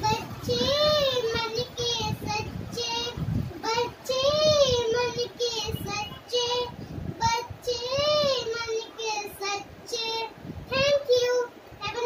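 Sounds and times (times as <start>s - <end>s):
girl singing solo: 0.0s - 12.0s.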